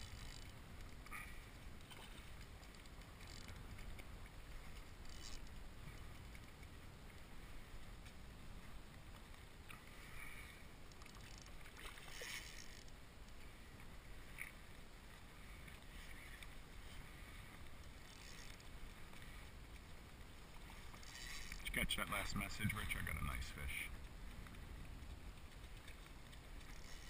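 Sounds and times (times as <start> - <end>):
water lapping against hull: 0.0 - 27.0.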